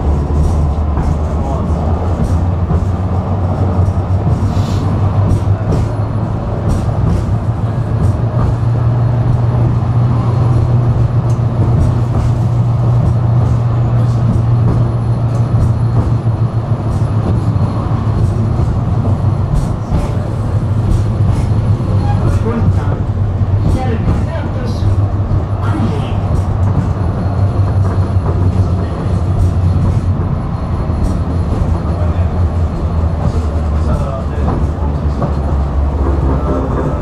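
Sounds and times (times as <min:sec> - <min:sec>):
tram rumbling on rails: 0:00.0 - 0:37.0.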